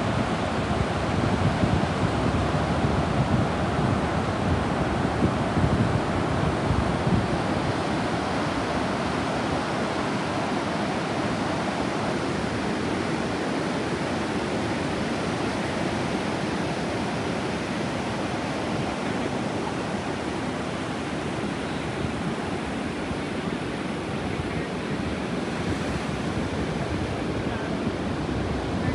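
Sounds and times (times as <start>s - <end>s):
sea surf breaking on beach: 0.0s - 28.9s
wind buffeting microphone: 0.0s - 28.9s.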